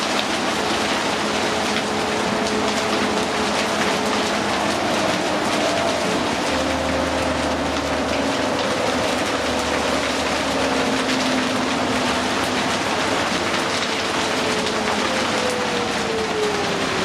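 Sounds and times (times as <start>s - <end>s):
bus drivetrain drone and whine: 0.0s - 17.0s
rain hissing on bus: 0.0s - 17.0s.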